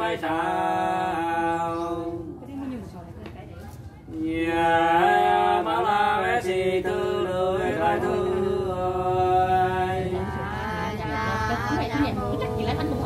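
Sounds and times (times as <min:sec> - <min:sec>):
unaccompanied folk singing: 0:00.0 - 0:02.7, 0:04.0 - 0:13.0.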